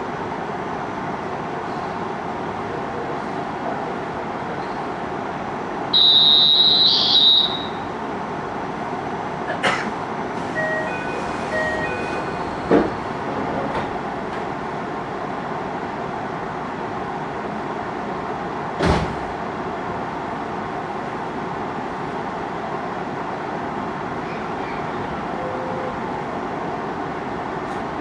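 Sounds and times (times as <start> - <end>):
train interior noise: 0.0 - 28.0.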